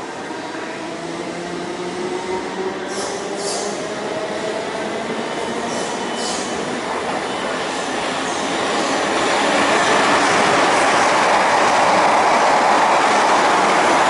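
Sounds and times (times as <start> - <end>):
train wheels roaring on rails: 0.0 - 14.0.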